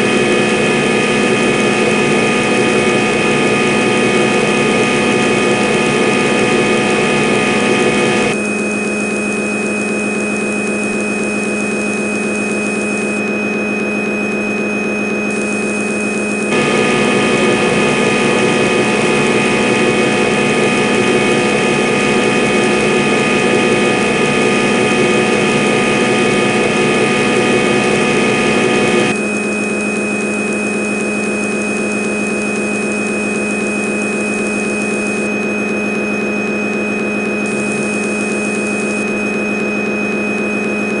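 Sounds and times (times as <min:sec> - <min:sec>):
lathe humming and whining: 0:00.0 - 0:41.0.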